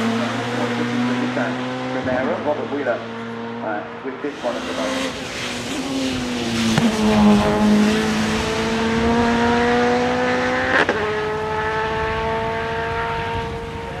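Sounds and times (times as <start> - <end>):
race car accelerating hard: 0.0 - 14.0.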